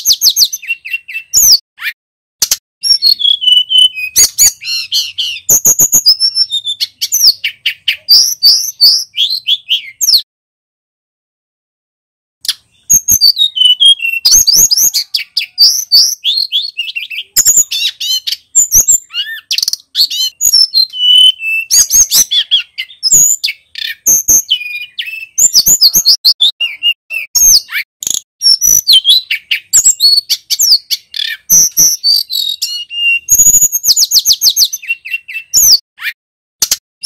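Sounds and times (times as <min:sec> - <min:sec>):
bird singing whistled notes: 0:00.0 - 0:02.0, 0:02.8 - 0:10.3, 0:12.4 - 0:36.2.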